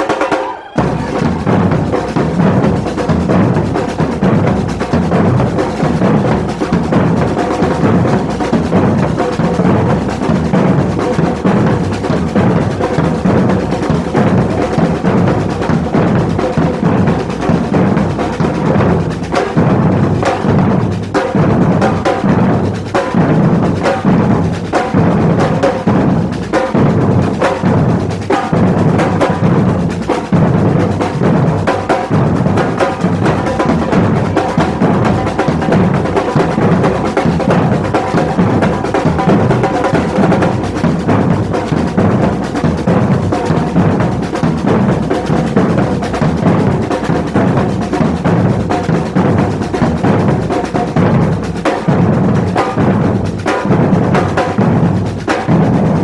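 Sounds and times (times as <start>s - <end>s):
samba drum band playing: 0.0s - 56.0s
deep bass drum beats: 0.7s - 56.0s.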